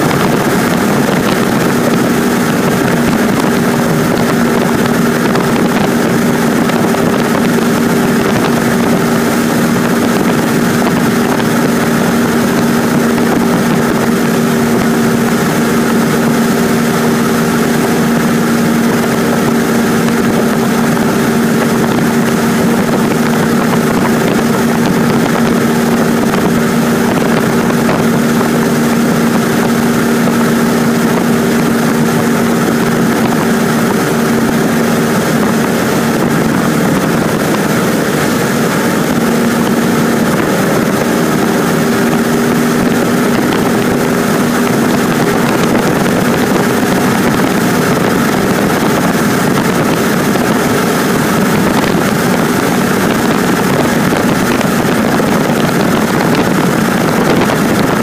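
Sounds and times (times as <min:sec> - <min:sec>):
airplane engine droning in cockpit: 0:00.0 - 0:58.0.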